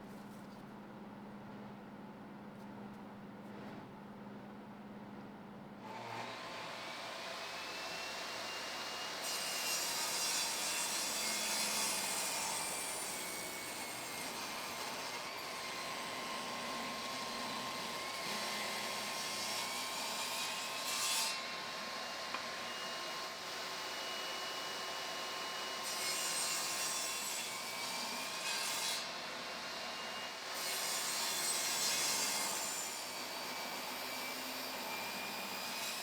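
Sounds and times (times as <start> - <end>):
saw cutting wood: 5.8 - 36.0.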